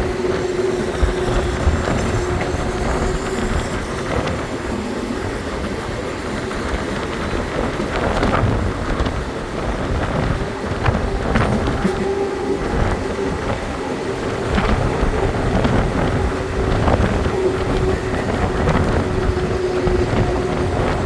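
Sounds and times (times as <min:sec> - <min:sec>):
train rumbling: 0:00.0 - 0:21.0
wheels knocking on rails: 0:00.0 - 0:21.0.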